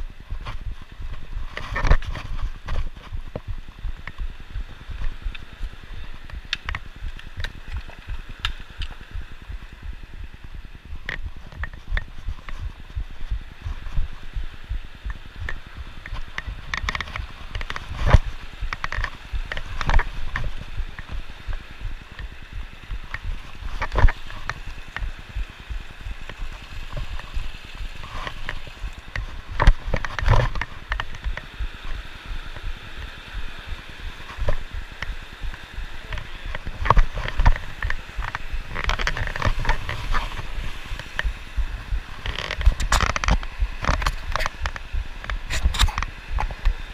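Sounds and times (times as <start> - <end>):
creek rushing over boulders: 0.0 - 46.9
footsteps on rocks: 0.4 - 46.9.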